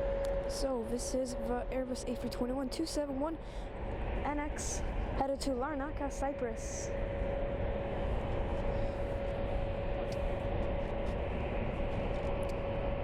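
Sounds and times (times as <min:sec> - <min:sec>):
jet engine whine: 0:00.0 - 0:13.0
jet engines rumbling: 0:00.0 - 0:13.0.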